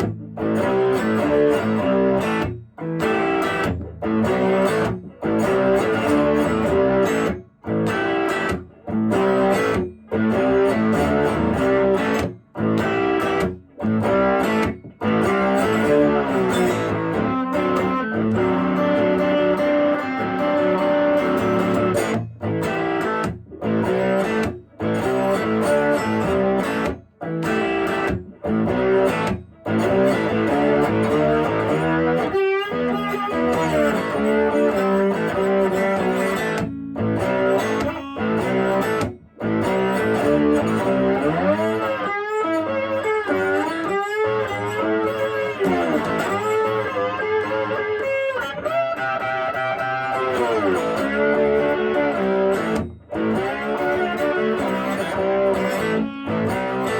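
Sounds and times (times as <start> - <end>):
electric slide guitar playing blues: 0.0 - 56.9.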